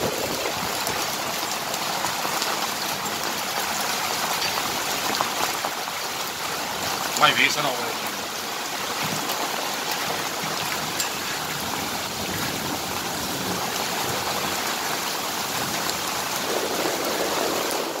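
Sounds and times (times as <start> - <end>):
hail and rain falling: 0.0 - 18.0
water rushing down road: 0.0 - 18.0.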